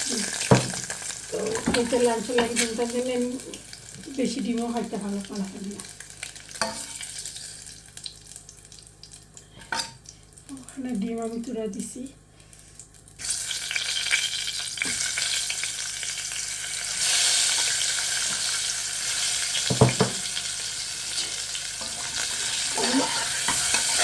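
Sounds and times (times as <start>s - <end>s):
potatoes sizzling in oil: 0.0s - 24.0s.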